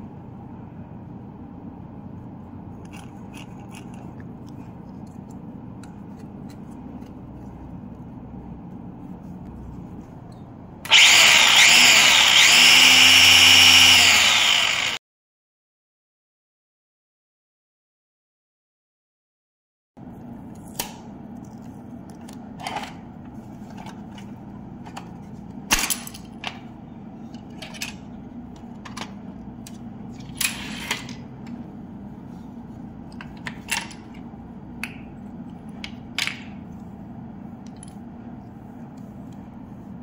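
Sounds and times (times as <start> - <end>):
steady low hum: 0.0 - 15.0, 20.0 - 40.0.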